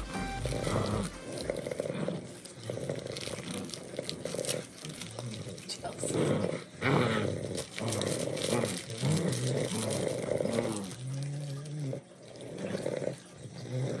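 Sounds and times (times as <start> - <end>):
dogs growling in play: 0.4 - 14.0.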